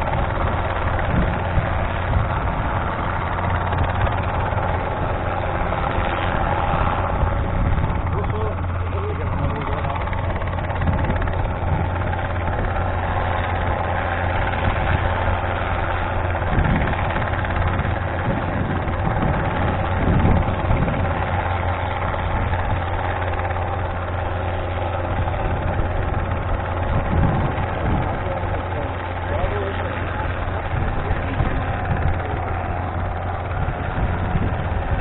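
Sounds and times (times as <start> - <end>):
helicopter engine and rotor hum: 0.0 - 35.0.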